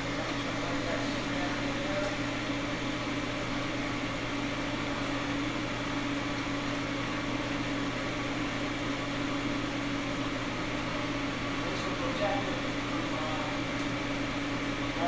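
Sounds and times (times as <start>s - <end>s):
blower fan humming: 0.0s - 15.0s.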